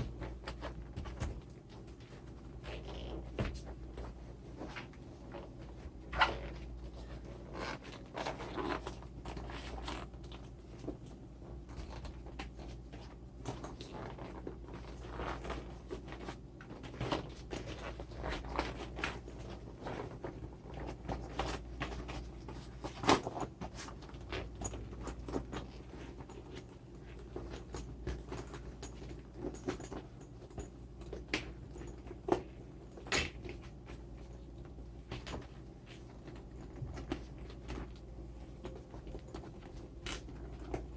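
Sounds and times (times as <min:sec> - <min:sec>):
leather bag rustling and creaking: 0:00.0 - 0:40.9
steady low hum: 0:00.0 - 0:40.9.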